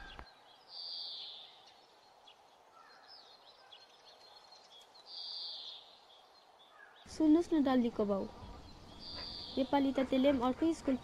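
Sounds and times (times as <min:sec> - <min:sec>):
small bird chirps: 0:00.0 - 0:11.0.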